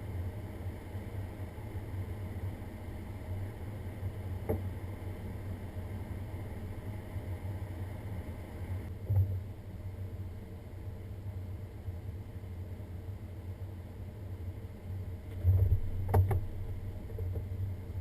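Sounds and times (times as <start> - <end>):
vehicle engine and tyres rumbling: 0.0 - 18.0.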